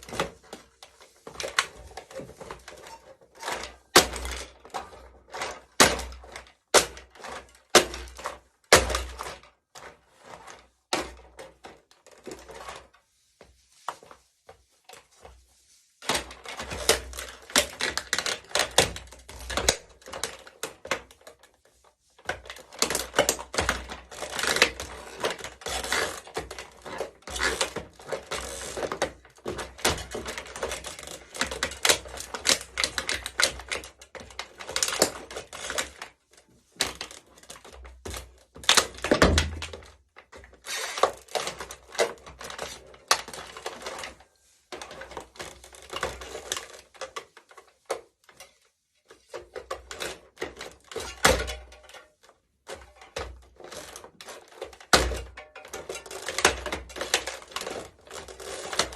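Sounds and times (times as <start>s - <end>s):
plastic toy crackling underfoot: 0.0s - 58.9s.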